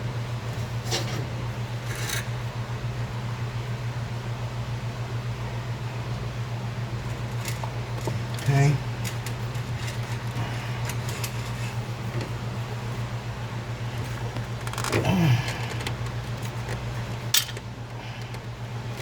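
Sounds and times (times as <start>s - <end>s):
equipment humming: 0.0s - 19.0s.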